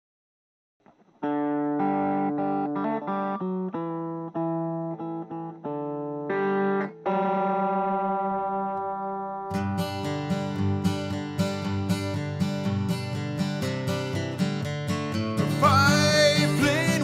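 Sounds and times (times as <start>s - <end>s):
guitar melody of held notes: 1.2s - 17.0s.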